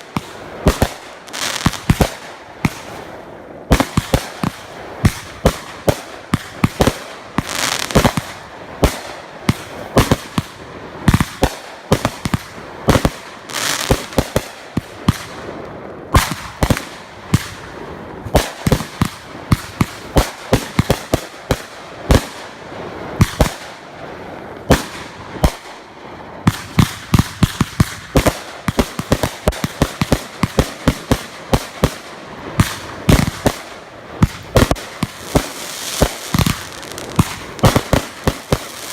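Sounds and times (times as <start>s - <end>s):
fireworks bangs and pops: 0.0s - 38.9s
fireworks crackling: 0.0s - 38.9s.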